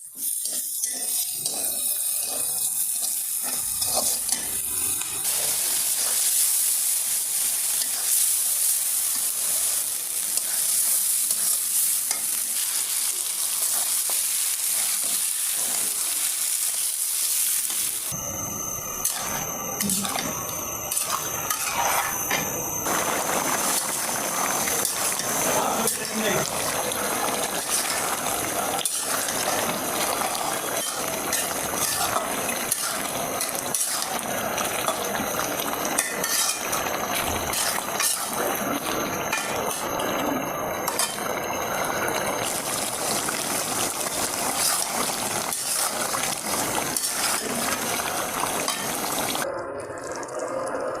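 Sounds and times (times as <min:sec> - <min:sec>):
food sizzling in a pan: 0:00.0 - 0:49.5.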